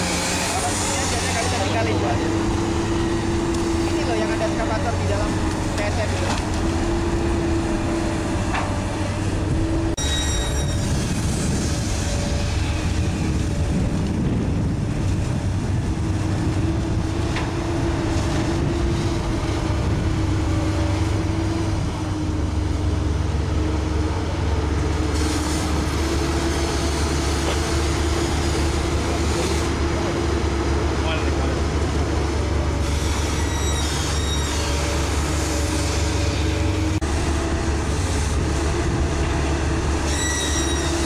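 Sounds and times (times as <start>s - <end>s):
excavator diesel engine rumbling: 0.0s - 41.0s
steady engine whine: 0.0s - 41.0s.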